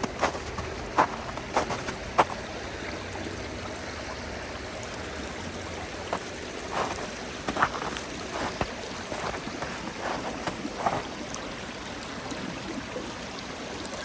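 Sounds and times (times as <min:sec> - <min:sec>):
small stream running: 0:00.0 - 0:14.0.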